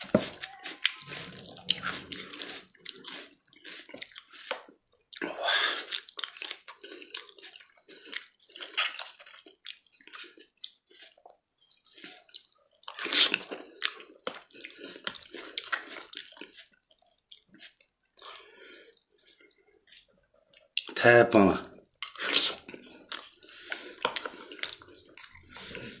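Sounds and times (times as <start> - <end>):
man chewing and slurping: 0.0 - 21.0, 21.8 - 26.0.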